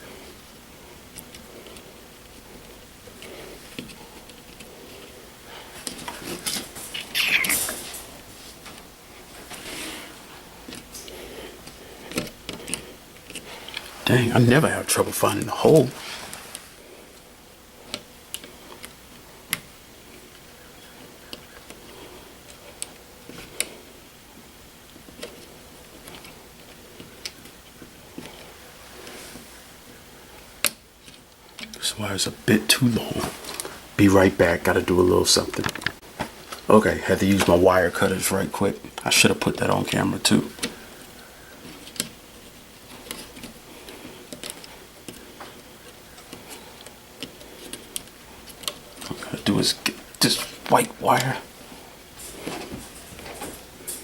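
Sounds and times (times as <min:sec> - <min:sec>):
soft handling rustle: 0:00.0 - 0:54.0.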